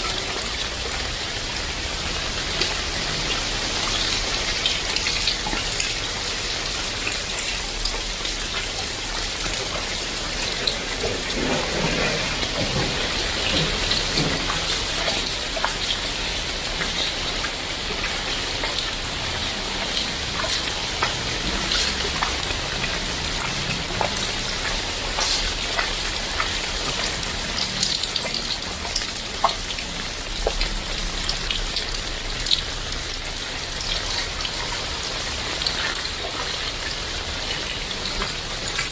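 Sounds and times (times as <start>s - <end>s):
heavy rain falling: 0.0s - 38.9s
raindrops tapping: 0.0s - 38.9s.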